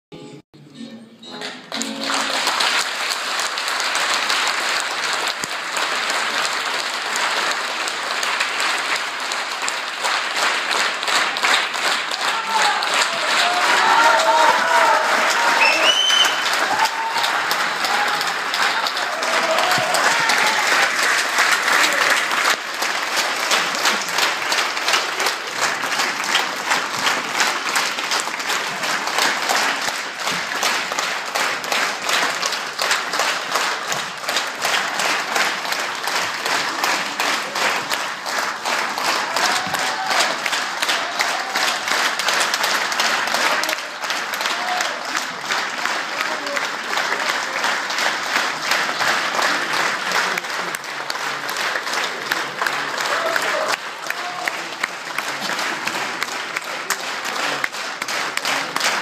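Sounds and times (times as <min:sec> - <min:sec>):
audience applauding: 0:01.4 - 0:59.0.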